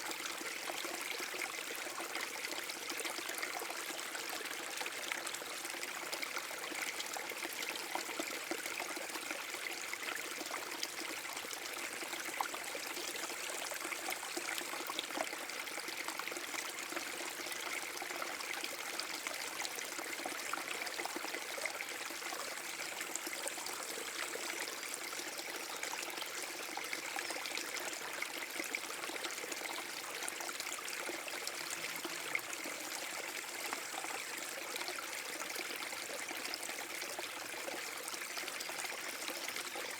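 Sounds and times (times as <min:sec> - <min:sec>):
small waterfall over rocks: 0:00.0 - 0:39.9.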